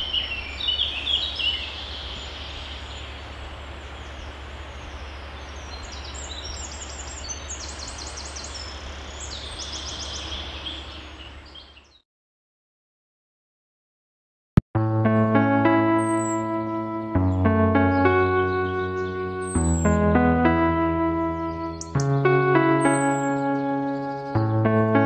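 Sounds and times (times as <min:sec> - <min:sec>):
small birds chirping and trilling: 0:00.0 - 0:12.0, 0:15.9 - 0:25.0.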